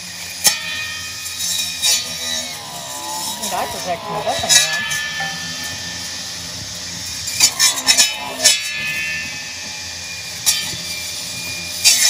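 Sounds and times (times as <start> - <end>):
saw blade cutting wood: 1.2 - 12.0
saw blade motor whining: 1.2 - 12.0.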